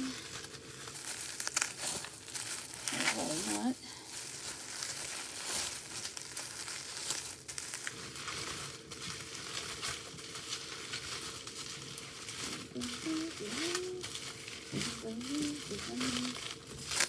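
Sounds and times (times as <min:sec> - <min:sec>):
wrapping crinkling and rustling: 0:00.0 - 0:17.0.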